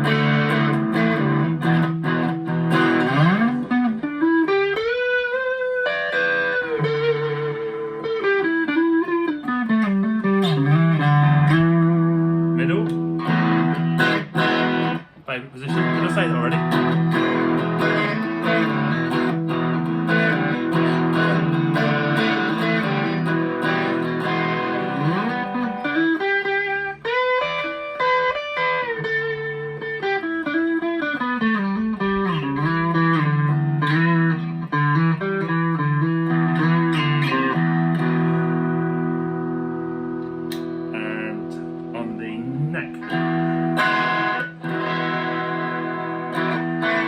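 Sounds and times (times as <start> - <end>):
electric guitar lead run: 0.0 - 47.0
overdriven electric guitar chords: 0.0 - 47.0.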